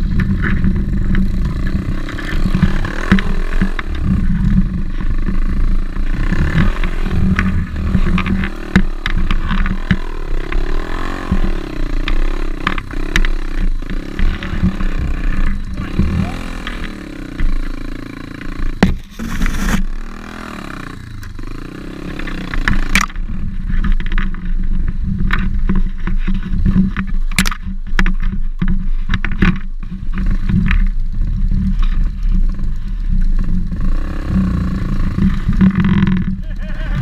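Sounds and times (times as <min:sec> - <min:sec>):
sharp knocks and rattles: 0:00.0 - 0:20.0, 0:21.0 - 0:37.0
pit bike engine revving: 0:00.0 - 0:24.4, 0:29.8 - 0:37.0.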